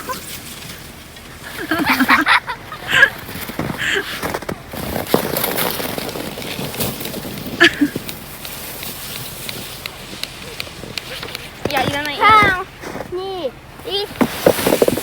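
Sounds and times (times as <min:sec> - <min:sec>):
sleds scraping on snow: 0:00.0 - 0:15.0.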